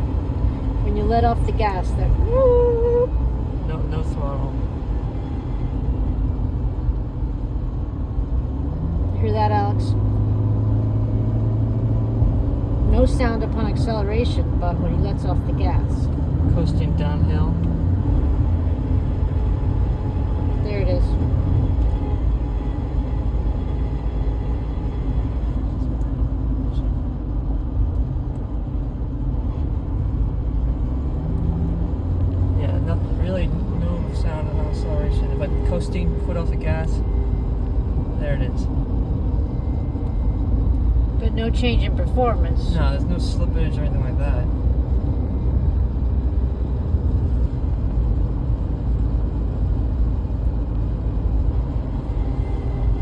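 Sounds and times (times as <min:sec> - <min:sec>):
car road and cabin noise: 0:00.0 - 0:53.0
faint differential whine: 0:00.0 - 0:53.0.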